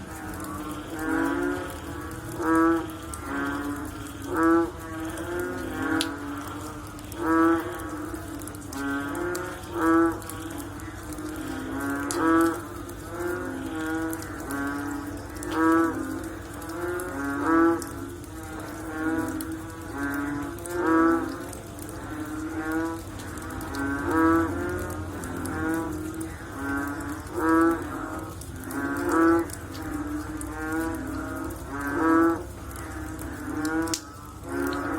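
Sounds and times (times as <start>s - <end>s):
frogs croaking: 0.0s - 34.9s.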